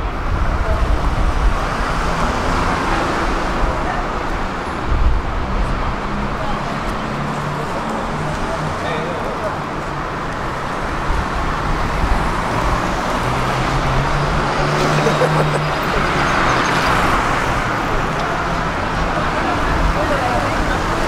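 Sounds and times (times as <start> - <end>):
motor vehicles passing: 0.2 - 21.0.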